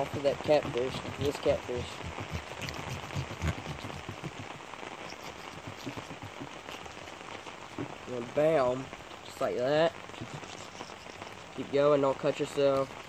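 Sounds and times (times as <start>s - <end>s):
heavy rain on an umbrella: 0.0s - 13.0s.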